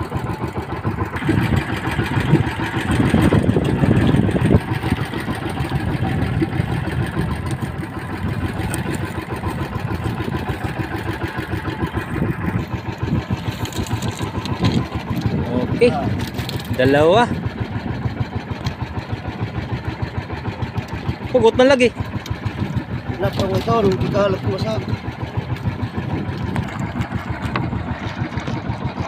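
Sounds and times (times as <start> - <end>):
small boat engine idling: 0.0 - 29.0.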